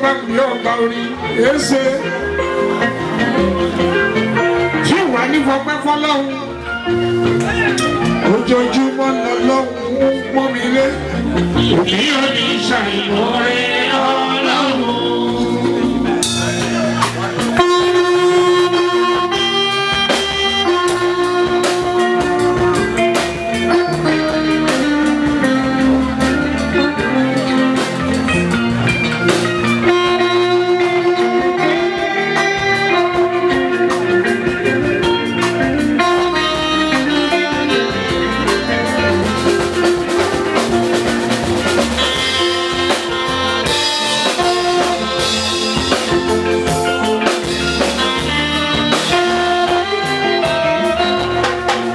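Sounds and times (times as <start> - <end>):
horn-like sustained notes: 0.0 - 51.9
live band playing instrumental: 0.0 - 51.9
drums and percussion: 2.4 - 5.2, 11.6 - 51.9.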